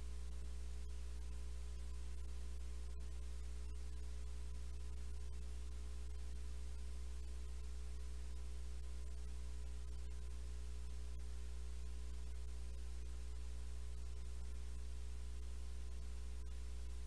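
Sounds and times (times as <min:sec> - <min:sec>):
faint background hiss: 0:00.0 - 0:17.0
low electrical hum: 0:00.0 - 0:17.0.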